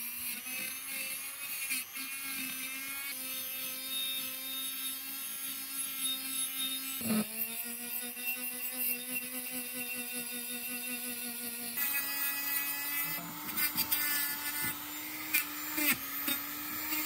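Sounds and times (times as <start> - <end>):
electric power tool motor humming: 0.0 - 17.0.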